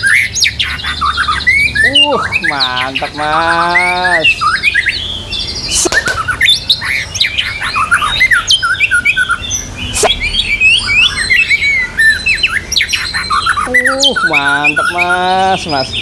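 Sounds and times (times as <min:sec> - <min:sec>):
songbird singing whistled notes: 0:00.0 - 0:16.0.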